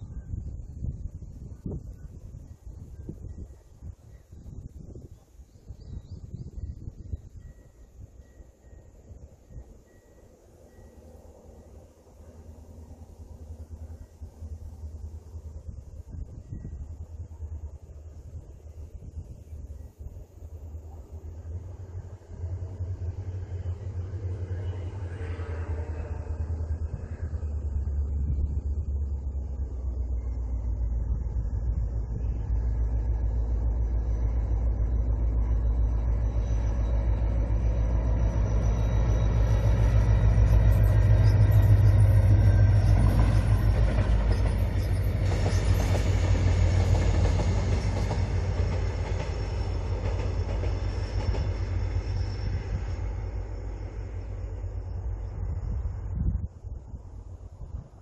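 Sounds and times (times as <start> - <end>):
locomotive engine rumble: 0.0 - 58.0
wheels rattling on rails: 0.3 - 58.0.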